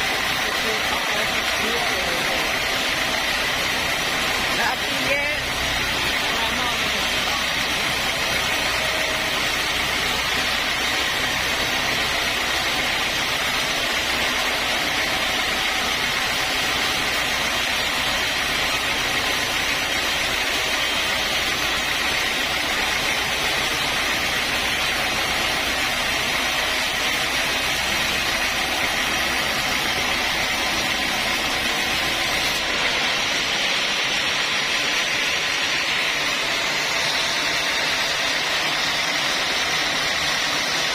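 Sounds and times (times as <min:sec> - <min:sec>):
sawmill saw hissing: 0:00.0 - 0:40.9.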